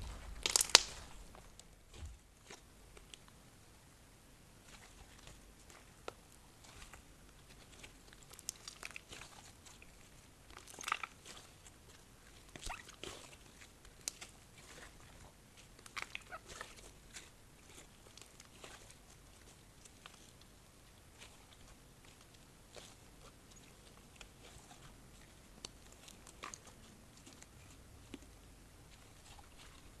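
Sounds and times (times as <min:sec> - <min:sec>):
slime squished by hand: 0:00.0 - 0:03.3, 0:04.6 - 0:30.0.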